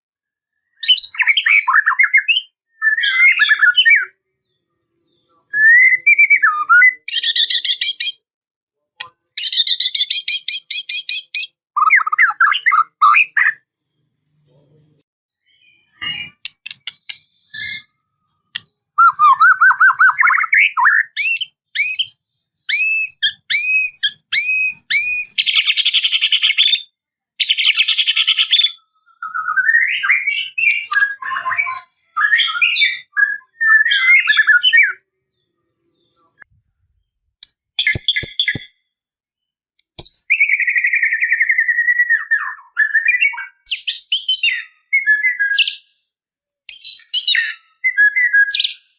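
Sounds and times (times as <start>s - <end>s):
songbird singing trills and whistles: 0.5s - 8.2s, 9.0s - 13.6s, 15.4s - 39.0s, 40.0s - 48.9s.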